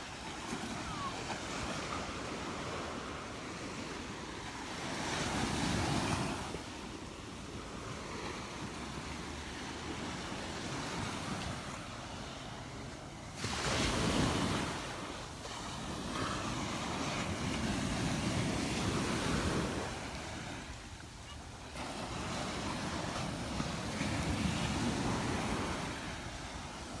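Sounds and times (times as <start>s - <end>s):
surf washing onto beach: 0.0s - 27.0s.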